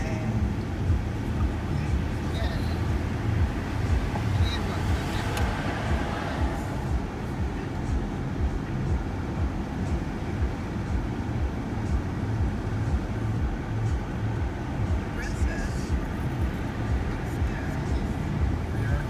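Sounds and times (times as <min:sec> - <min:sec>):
engine rumble inside van: 0:00.0 - 0:19.0
road noise: 0:00.0 - 0:19.0.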